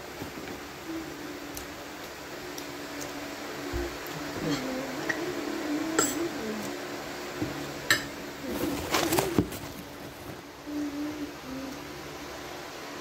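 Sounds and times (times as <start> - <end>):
low wavering humming voice: 0.0 - 13.0.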